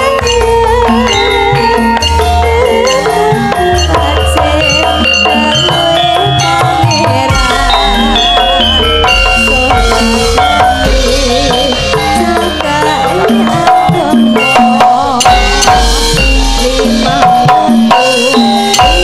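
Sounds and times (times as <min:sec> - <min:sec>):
drum beating: 0:00.0 - 0:19.0
metallophone notes ringing: 0:00.0 - 0:19.0
woman singing with vibrato: 0:00.0 - 0:19.0.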